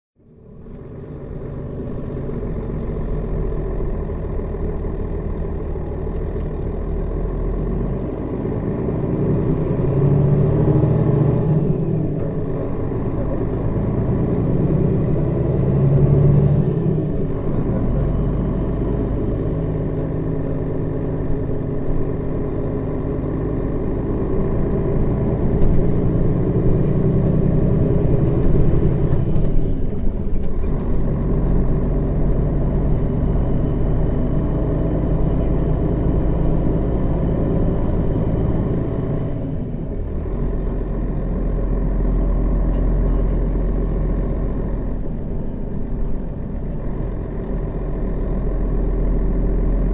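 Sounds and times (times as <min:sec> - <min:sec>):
bus diesel engine running: 0:00.2 - 0:49.9.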